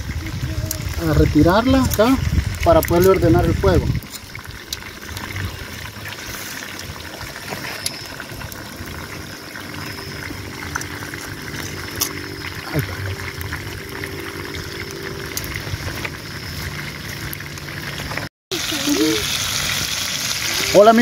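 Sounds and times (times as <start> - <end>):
fire crackling: 0.0 - 21.0
fish sizzling in oil: 0.0 - 21.0.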